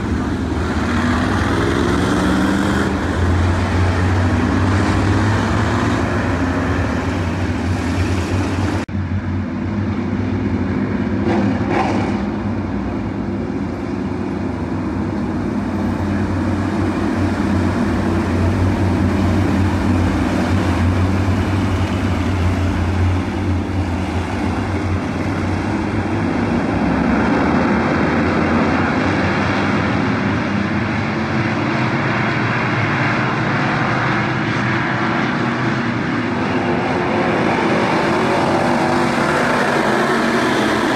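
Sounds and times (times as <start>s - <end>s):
race car engines droning: 0.0s - 40.9s.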